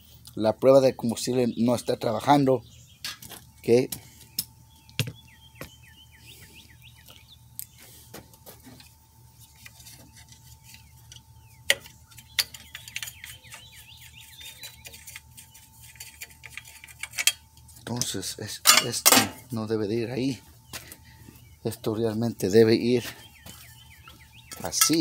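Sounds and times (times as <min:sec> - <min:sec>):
bird chirping: 0:00.9 - 0:08.0, 0:09.2 - 0:16.9, 0:19.4 - 0:25.0.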